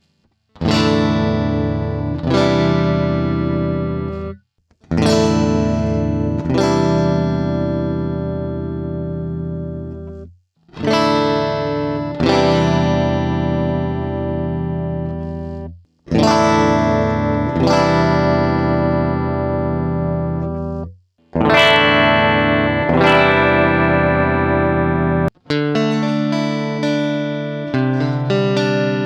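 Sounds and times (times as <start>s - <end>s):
electric guitar strumming chords: 0.6s - 29.0s.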